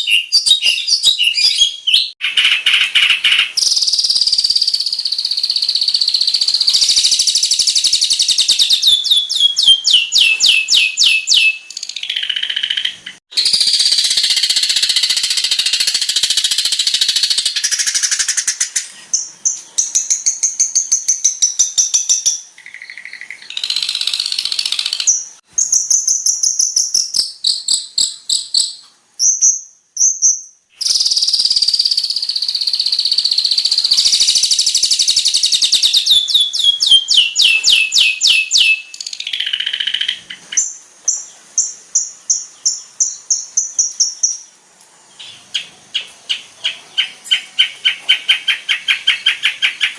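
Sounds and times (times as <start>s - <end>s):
shrike singing: 0.0s - 44.6s.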